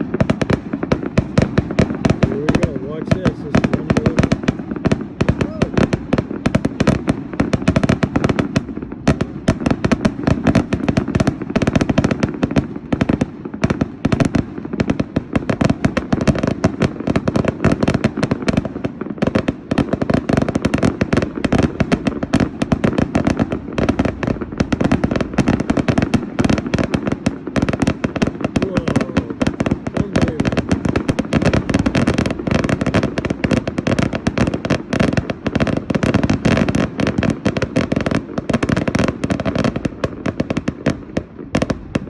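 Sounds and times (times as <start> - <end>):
fireworks barrage bangs: 0.0 - 42.0.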